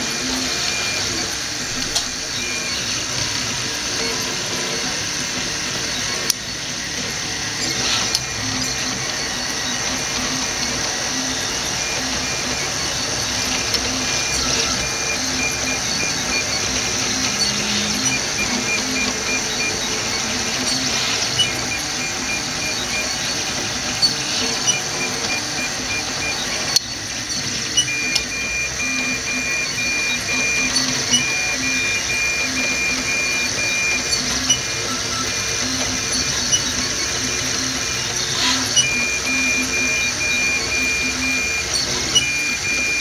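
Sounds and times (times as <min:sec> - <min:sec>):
stepper motors whining: 0:00.0 - 0:43.0.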